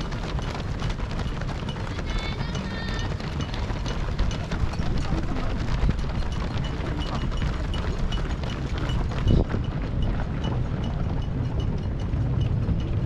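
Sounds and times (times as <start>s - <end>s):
runners' footsteps on road: 0.0s - 13.0s
wind rumble on microphone: 0.0s - 13.0s.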